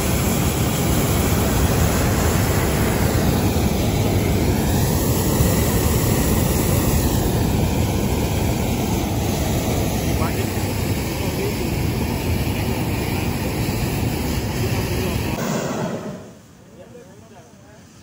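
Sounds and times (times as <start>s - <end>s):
propane burner roaring: 0.0s - 16.8s.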